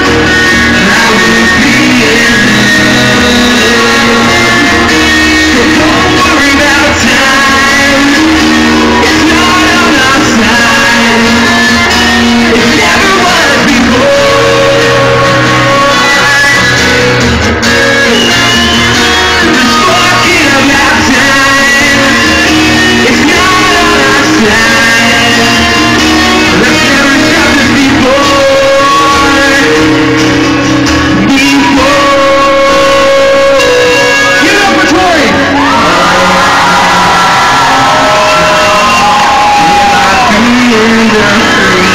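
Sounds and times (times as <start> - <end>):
live rock band: 0.0 - 41.9
singer singing into a microphone: 0.0 - 41.9.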